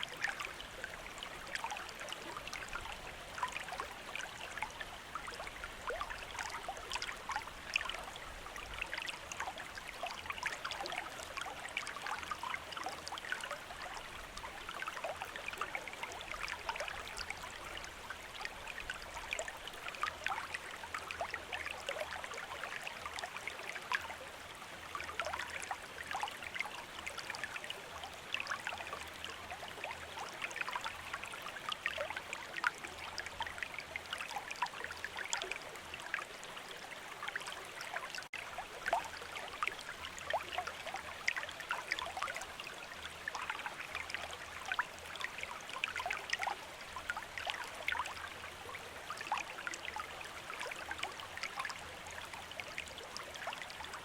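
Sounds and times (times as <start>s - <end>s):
stream water trickling over stones: 0.0s - 54.0s.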